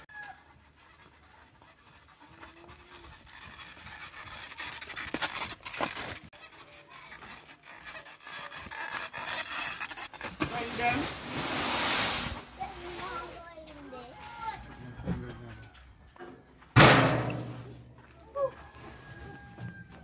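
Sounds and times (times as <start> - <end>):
gravel crunching and scraping: 0.0 - 20.0.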